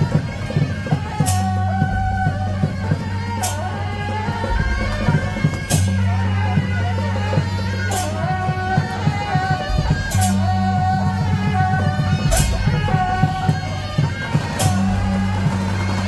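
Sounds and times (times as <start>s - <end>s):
quick drumbeats: 0.0s - 16.0s
reed horns playing melody: 0.0s - 16.0s.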